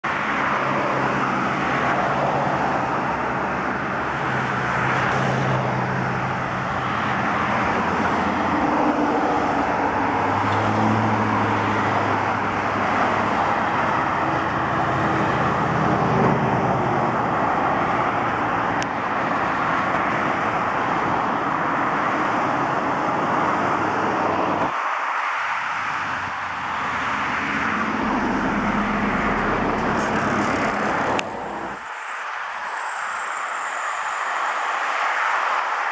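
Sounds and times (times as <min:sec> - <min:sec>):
cars driving past: 0:00.0 - 0:35.9.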